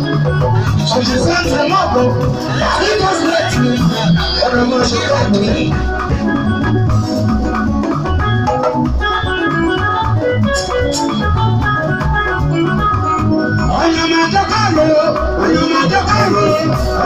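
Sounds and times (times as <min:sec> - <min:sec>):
electronic organ keyboard: 0:00.0 - 0:17.0
pulsing bass line: 0:00.0 - 0:17.0.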